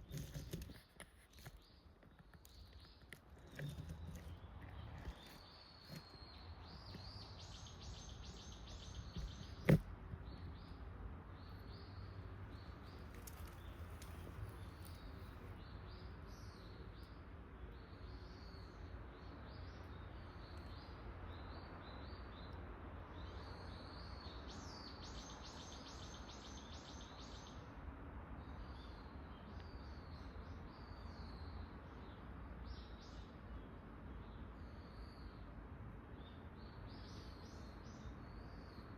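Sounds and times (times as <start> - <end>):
songbirds calling: 0.0 - 38.9.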